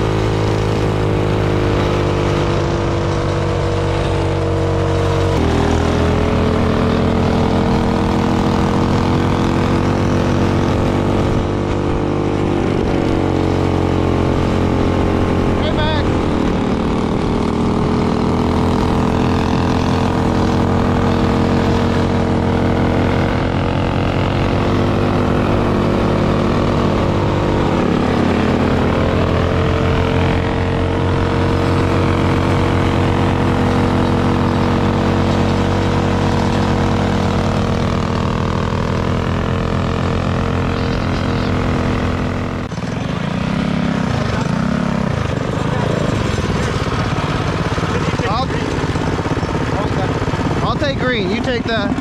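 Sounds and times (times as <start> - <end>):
minibike engine running: 0.0 - 52.0.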